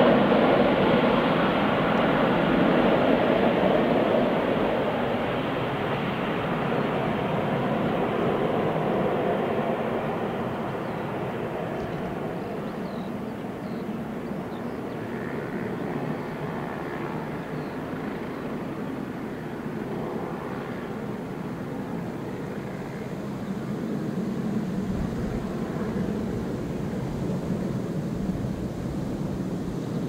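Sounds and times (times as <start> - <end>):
distant jet roar: 0.0 - 30.0.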